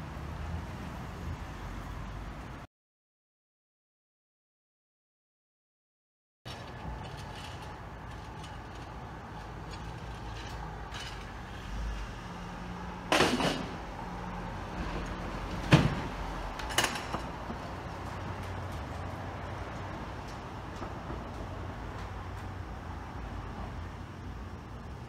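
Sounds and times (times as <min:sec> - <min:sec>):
street traffic hum: 0:00.0 - 0:02.7, 0:06.5 - 0:25.0.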